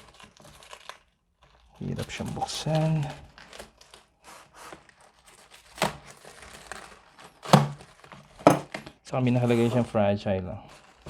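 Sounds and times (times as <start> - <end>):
plastic wrap crinkling and tearing: 0.0 - 11.0.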